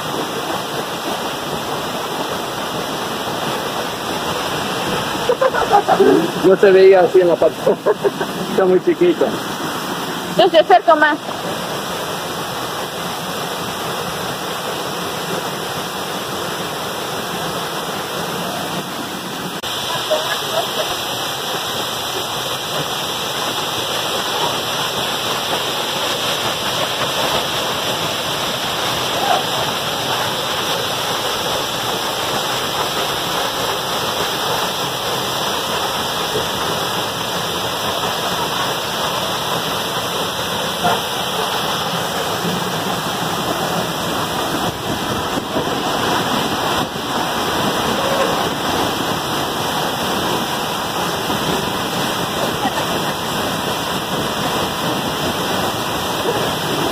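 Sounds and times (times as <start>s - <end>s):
waterfall rushing onto rock: 0.0s - 56.9s.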